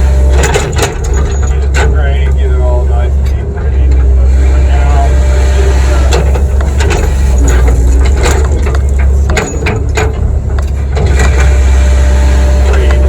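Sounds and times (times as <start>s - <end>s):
excavator engine droning: 0.0s - 13.0s.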